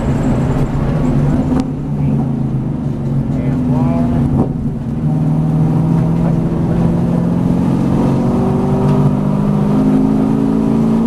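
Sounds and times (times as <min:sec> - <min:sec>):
racing car engine under load: 0:00.0 - 0:11.0.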